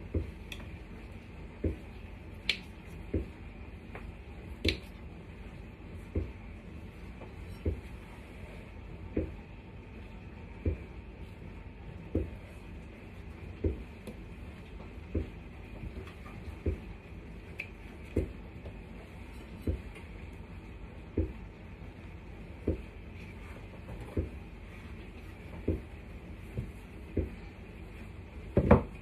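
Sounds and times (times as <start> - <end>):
dishwasher humming: 0.0 - 0.8, 1.5 - 29.0.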